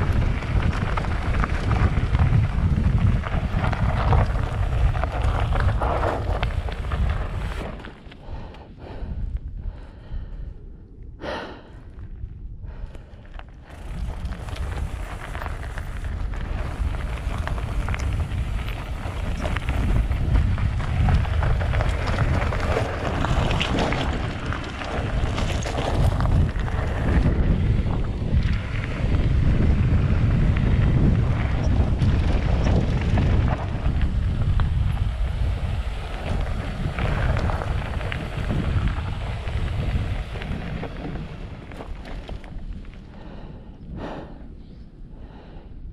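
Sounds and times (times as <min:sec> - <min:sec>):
bike clicks and rattles: 0:00.0 - 0:08.7, 0:12.9 - 0:43.5
bike tyre noise on dirt: 0:00.0 - 0:10.6, 0:11.2 - 0:45.9
wind buffeting microphone: 0:00.0 - 0:45.9.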